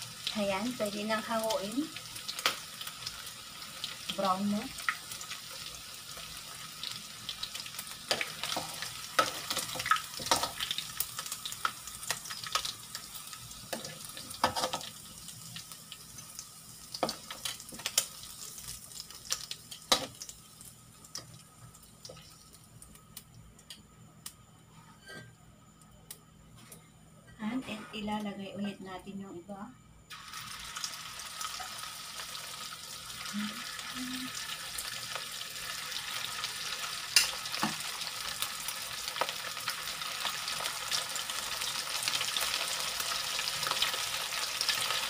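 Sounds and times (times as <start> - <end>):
hot oil sizzling and popping: 0.0 - 24.5, 30.1 - 45.0.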